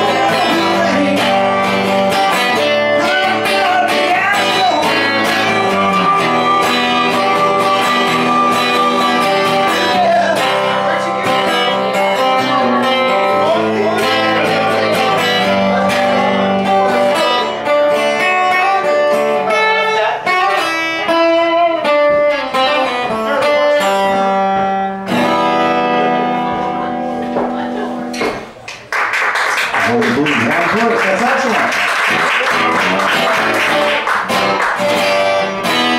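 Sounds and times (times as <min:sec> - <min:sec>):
guitar picking notes and chords: 0:00.0 - 0:28.7, 0:30.1 - 0:35.9.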